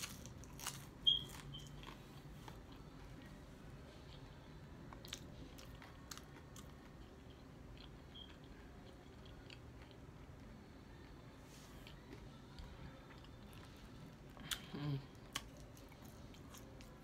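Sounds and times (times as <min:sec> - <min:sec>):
person chewing food: 0:00.0 - 0:03.4, 0:04.0 - 0:11.2, 0:11.8 - 0:17.0.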